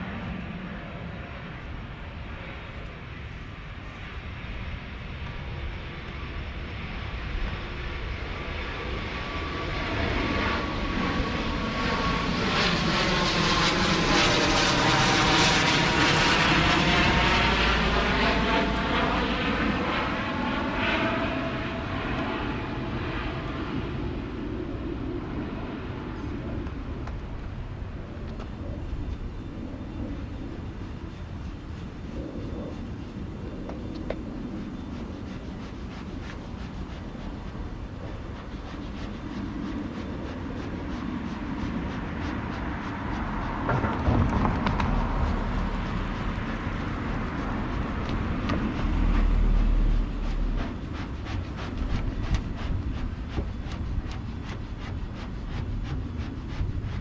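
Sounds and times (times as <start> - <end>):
airplane flying over: 0.0 - 57.0.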